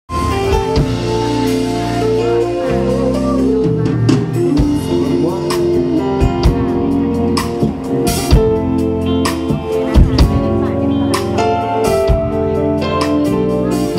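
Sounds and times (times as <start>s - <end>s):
band playing instrumental: 0.1s - 13.9s
drum kit: 0.1s - 13.9s.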